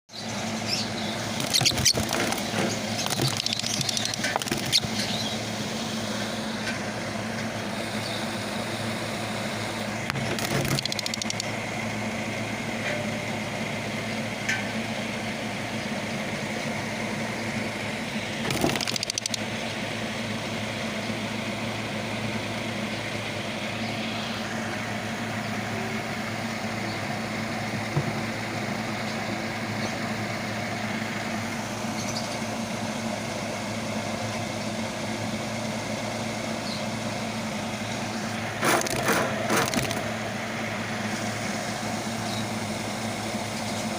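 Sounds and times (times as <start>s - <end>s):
steady mechanical hum: 0.1s - 43.9s.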